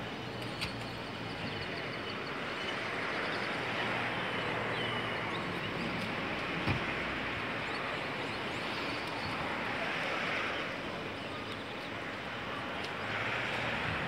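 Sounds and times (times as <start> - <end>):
road traffic rushing: 0.0 - 14.0.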